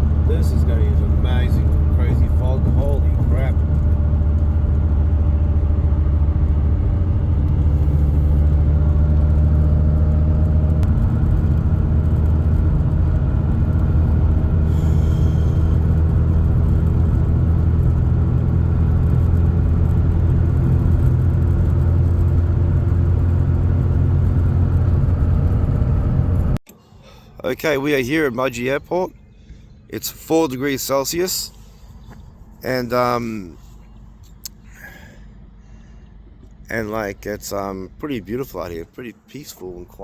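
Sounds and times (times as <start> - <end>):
car engine drone: 0.0 - 40.0
low road rumble: 0.0 - 40.0.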